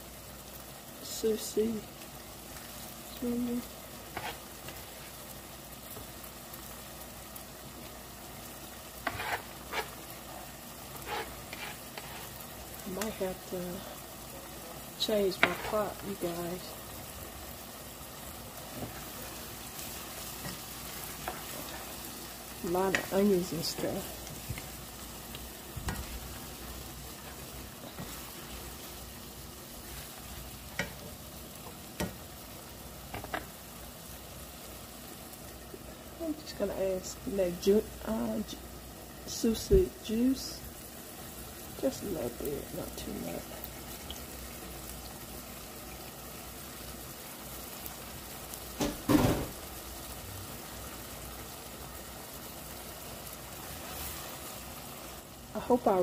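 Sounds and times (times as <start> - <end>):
onions sizzling in butter: 0.0 - 56.0.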